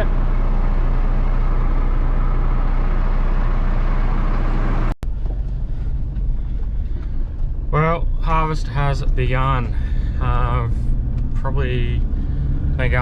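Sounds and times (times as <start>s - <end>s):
combine harvester droning: 0.0s - 13.0s
rough uneven engine: 0.0s - 13.0s.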